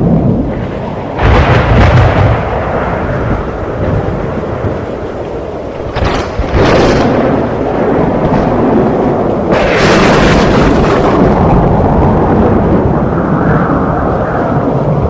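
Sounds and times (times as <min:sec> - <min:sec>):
thunder cracks: 0:00.0 - 0:15.0
thunder rolling rumble: 0:00.0 - 0:15.0.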